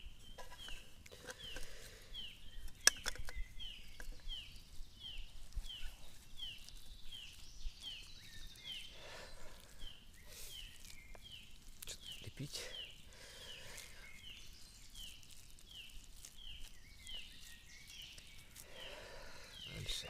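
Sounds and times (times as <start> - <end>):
small bird calling: 0.0 - 20.0.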